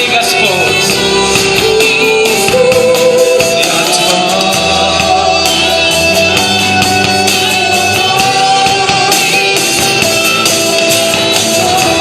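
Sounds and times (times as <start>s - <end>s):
worship band music: 0.0s - 12.0s.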